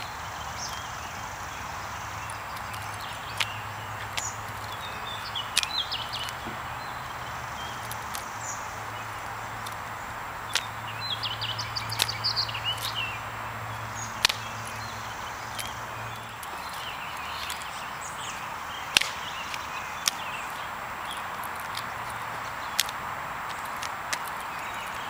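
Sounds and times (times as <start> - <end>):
birds chirping: 0.0 - 25.0
sharp clicks: 0.6 - 6.6, 7.4 - 25.0.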